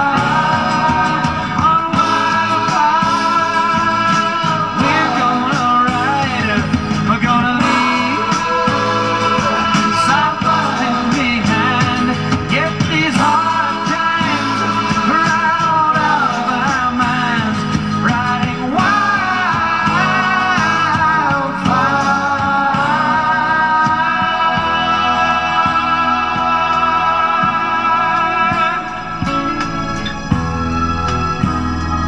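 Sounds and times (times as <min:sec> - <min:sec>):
soft rock ballad: 0:00.0 - 0:32.0.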